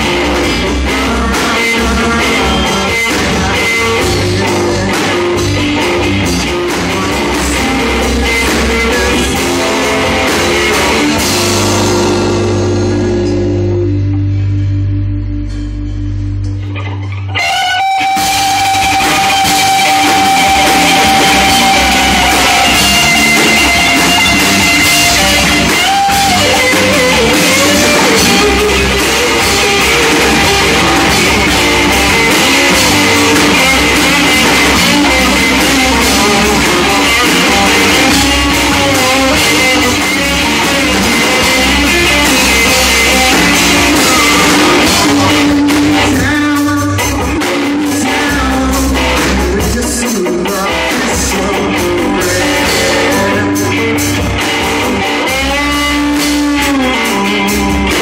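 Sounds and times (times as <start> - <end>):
lead guitar: 0.0 - 58.0
rock band playing live: 0.0 - 58.0.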